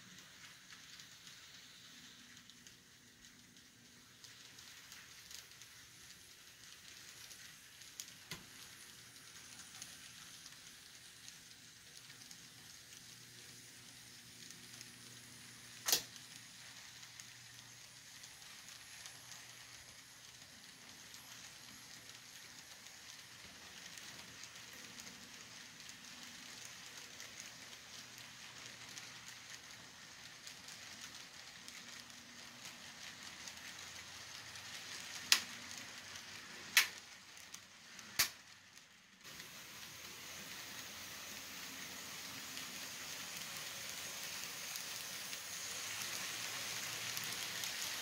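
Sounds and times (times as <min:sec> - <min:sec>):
faint steady hiss: 0:00.0 - 0:48.0
light crackling: 0:00.0 - 0:48.0.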